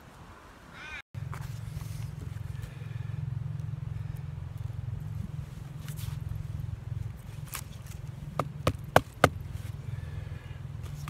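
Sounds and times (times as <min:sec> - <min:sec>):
steady low rumble: 0:01.2 - 0:11.0.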